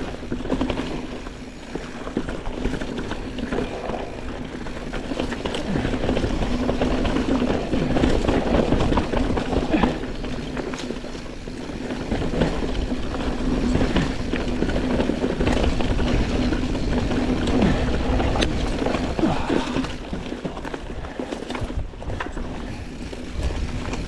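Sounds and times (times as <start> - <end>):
bike rattling and knocking: 0.0 - 24.0
bike tyres rolling over dirt: 0.0 - 24.0.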